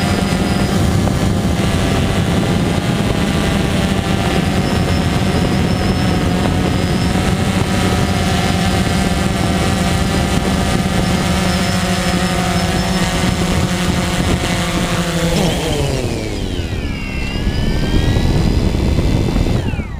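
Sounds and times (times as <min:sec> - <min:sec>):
drone propellers buzzing: 0:00.0 - 0:19.9.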